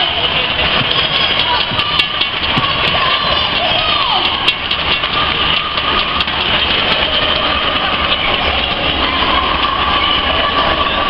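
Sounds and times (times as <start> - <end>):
crowd roar in stadium: 0.0 - 11.0.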